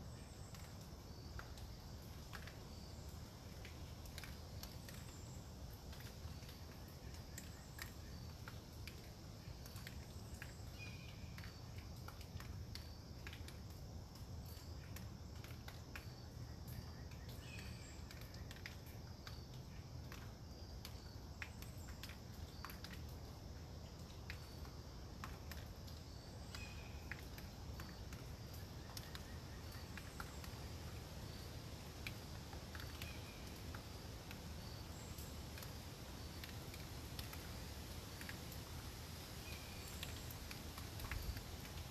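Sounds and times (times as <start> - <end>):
water dripping onto leaves: 0.0 - 41.9.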